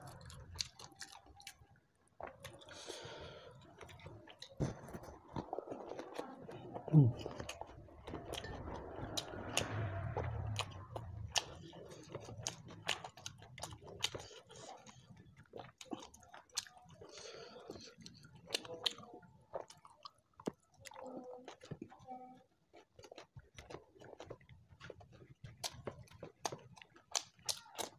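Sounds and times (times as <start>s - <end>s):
chewing with wet mouth smacks: 0.0s - 22.0s, 22.7s - 27.9s.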